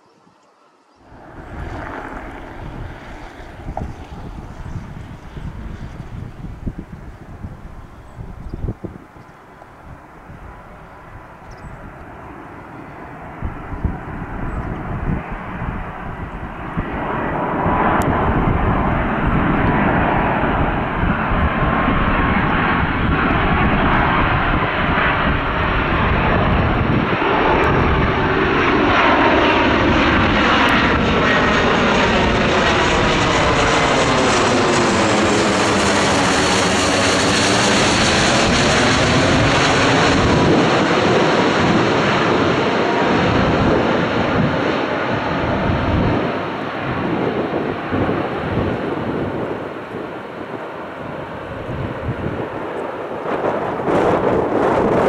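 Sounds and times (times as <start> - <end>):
jet aircraft roar and hiss: 0.0 - 55.0.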